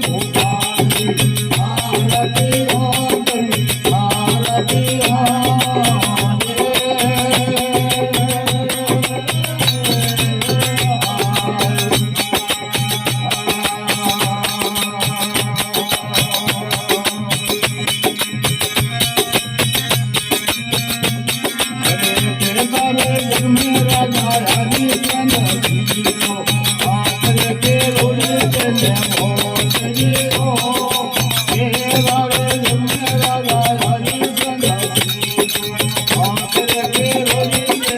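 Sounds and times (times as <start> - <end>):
jingling percussion beat: 0.0 - 37.9.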